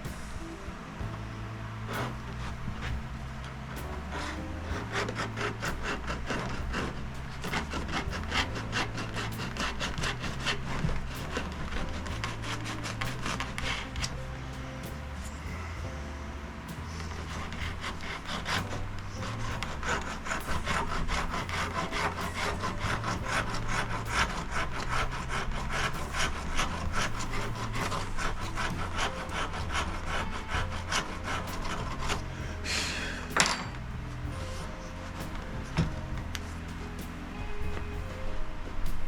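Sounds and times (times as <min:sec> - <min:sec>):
hand tool scraping wood: 0:01.9 - 0:15.7, 0:16.7 - 0:39.0.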